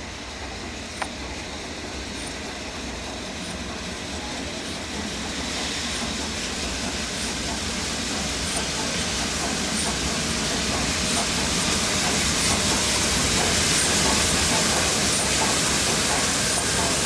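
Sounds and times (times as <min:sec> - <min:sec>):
steady hiss of steam: 0:00.0 - 0:17.0
steam locomotive running slowly: 0:00.0 - 0:17.0.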